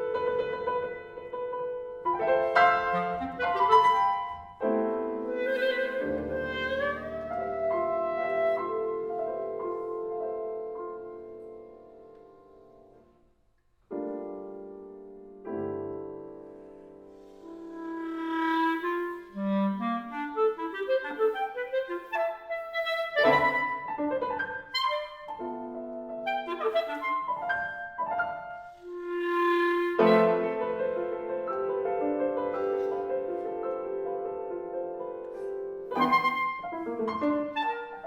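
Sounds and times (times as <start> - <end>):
clarinet: 0.0 - 12.2, 16.6 - 38.0
piano: 0.0 - 38.0.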